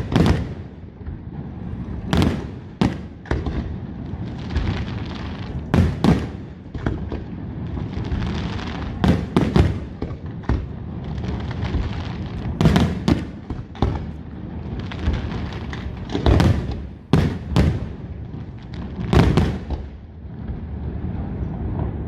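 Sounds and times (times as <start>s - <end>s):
fireworks crackle: 0.0s - 22.0s.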